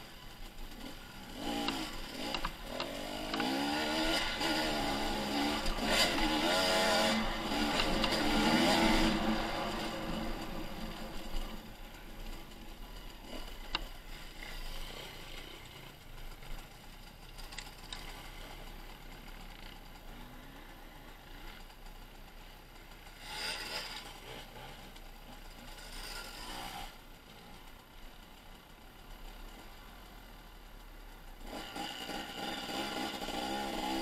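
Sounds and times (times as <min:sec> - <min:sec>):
dirt bike engines running: 0:00.0 - 0:34.0.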